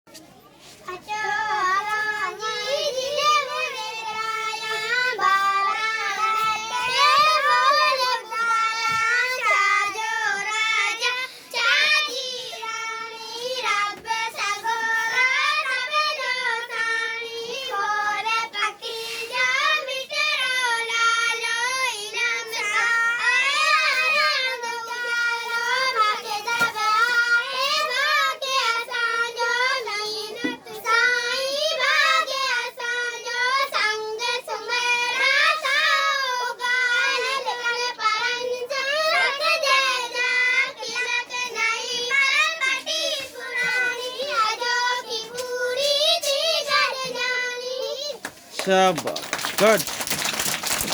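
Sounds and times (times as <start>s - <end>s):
girls chanting in unison: 0.9s - 48.2s.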